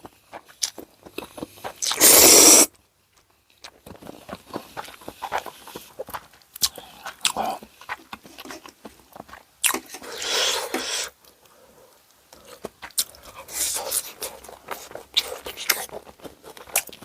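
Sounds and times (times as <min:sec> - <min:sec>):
close eating sounds: 0:00.0 - 0:17.0.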